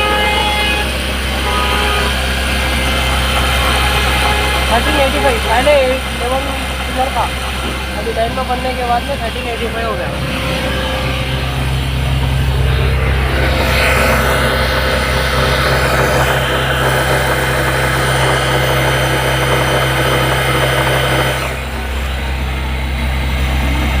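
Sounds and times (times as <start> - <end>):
petrol engine running: 0.0 - 24.0.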